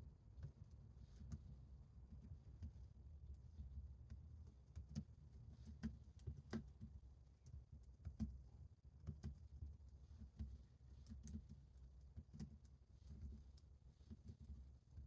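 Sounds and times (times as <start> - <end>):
low room hum: 0.0 - 15.0
light taps and clicks: 2.1 - 15.0.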